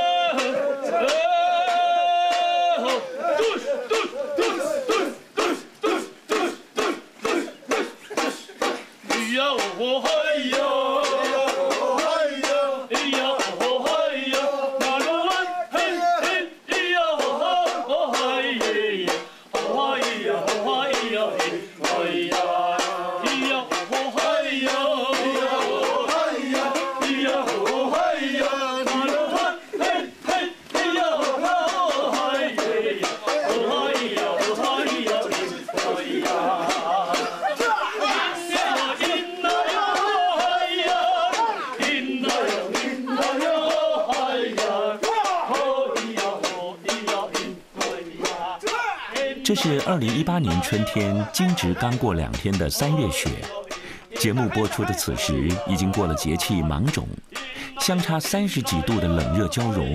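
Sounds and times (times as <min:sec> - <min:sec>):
group singing and shouting: 0:00.0 - 0:59.9
sharp rhythmic knocks: 0:00.0 - 0:59.9.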